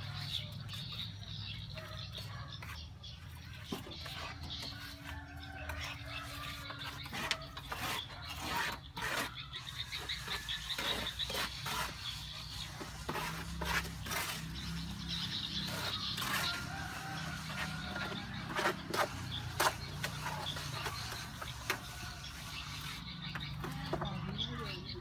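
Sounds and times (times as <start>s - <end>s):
trowels scraping wet mortar: 0.0s - 25.0s.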